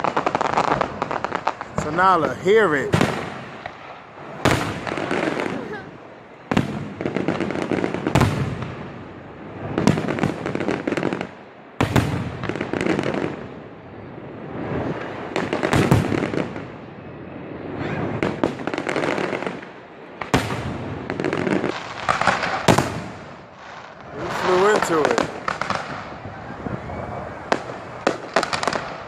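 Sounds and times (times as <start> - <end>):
firework booms: 0.0 - 29.0
firework crackling: 0.0 - 29.0.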